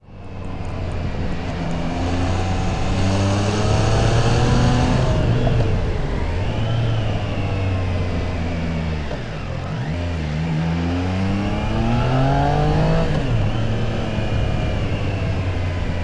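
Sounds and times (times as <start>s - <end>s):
wind and road noise: 0.0s - 16.0s
motorcycle engine revving: 0.1s - 16.0s.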